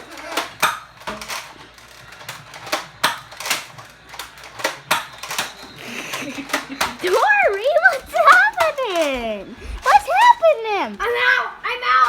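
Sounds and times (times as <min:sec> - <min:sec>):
toy blasters clicking and firing: 0:00.0 - 0:11.3.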